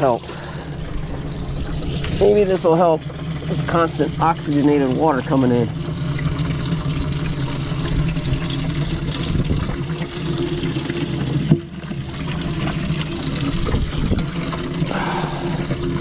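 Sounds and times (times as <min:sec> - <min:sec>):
low pump hum: 0:00.0 - 0:16.0
water pouring into tank: 0:00.0 - 0:16.0.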